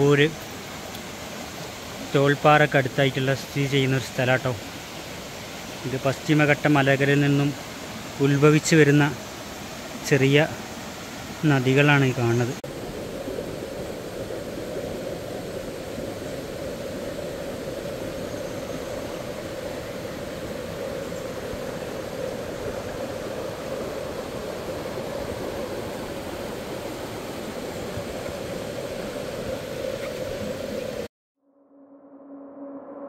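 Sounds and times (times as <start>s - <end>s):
river rushing: 0.0s - 31.1s.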